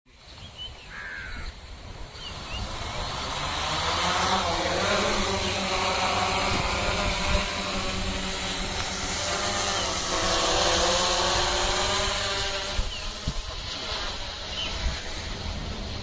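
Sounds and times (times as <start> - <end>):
drone motors buzzing: 0.3 - 16.0
rush of propeller air: 1.6 - 16.0.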